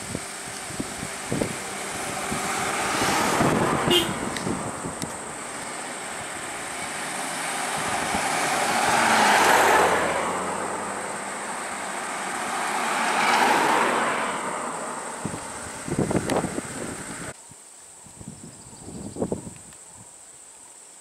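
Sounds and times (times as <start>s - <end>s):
road vehicles passing by: 0.0s - 17.4s.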